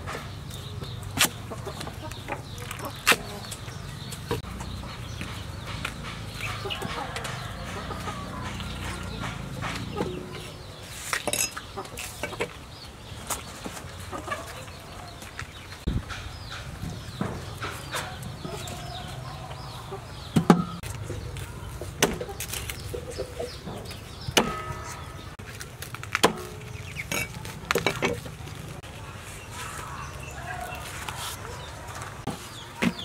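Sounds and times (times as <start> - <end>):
chickens clucking: 0.0 - 25.4, 26.2 - 33.0.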